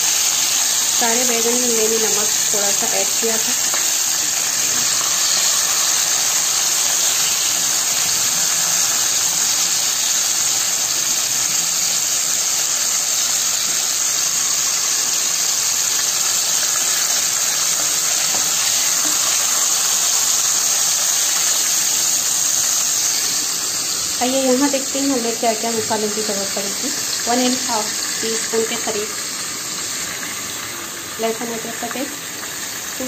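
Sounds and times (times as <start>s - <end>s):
eggplants frying in oil: 0.0s - 33.0s.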